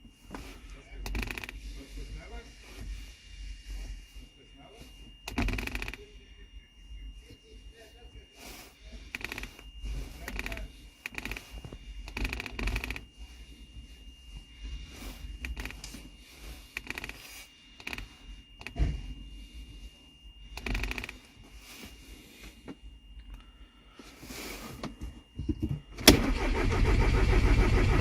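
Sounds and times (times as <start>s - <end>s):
faint high whine: 0.0s - 27.9s.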